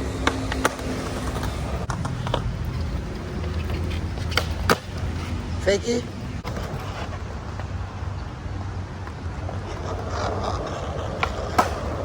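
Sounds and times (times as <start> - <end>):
city traffic: 0.0 - 12.0
skateboard clacks: 0.0 - 12.0
wind: 0.0 - 12.0.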